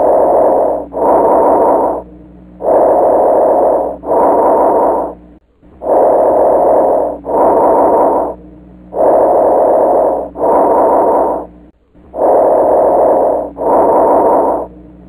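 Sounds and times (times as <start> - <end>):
breath sounds through stethoscope: 0.0 - 5.2, 5.8 - 8.4, 9.0 - 11.5, 12.1 - 14.7.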